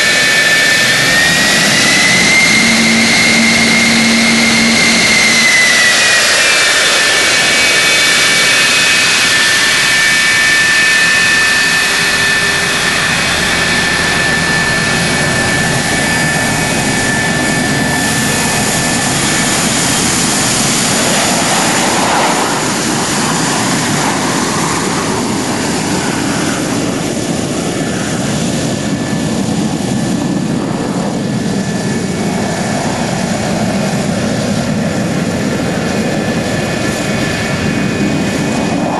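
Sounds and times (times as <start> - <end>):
jet engine roar with whine: 0.0 - 38.9.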